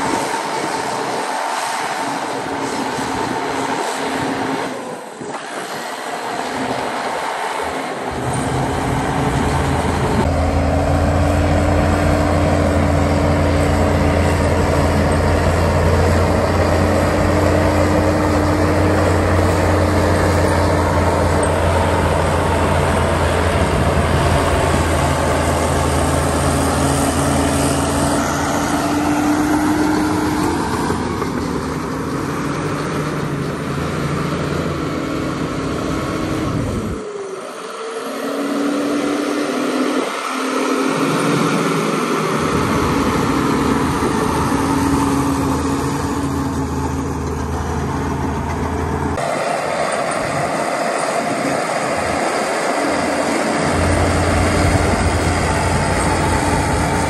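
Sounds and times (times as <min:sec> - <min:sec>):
heavy diesel machinery engine drone: 0:00.0 - 0:57.0.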